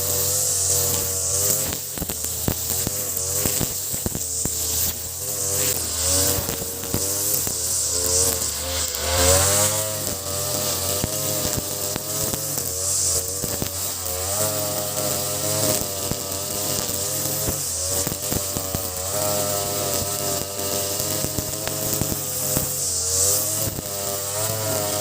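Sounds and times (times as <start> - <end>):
brush cutter engine revving: 0.0 - 25.0.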